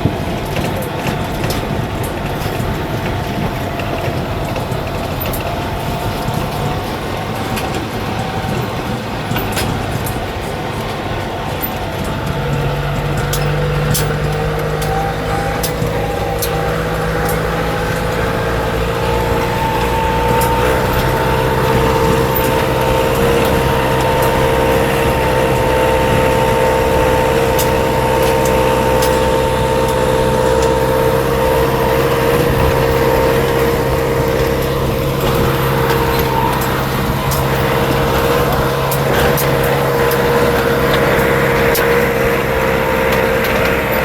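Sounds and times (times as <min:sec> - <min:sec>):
steady whine: 0:00.0 - 0:44.0
tractor engine running: 0:00.0 - 0:44.0.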